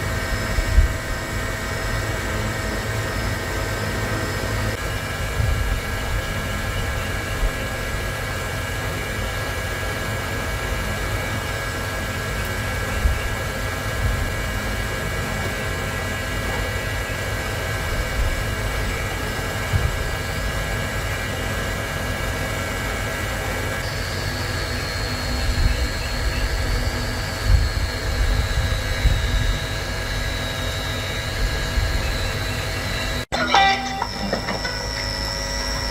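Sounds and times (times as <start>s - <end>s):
high whine: 0.0s - 35.9s
machine hum with low rumble: 0.0s - 35.9s.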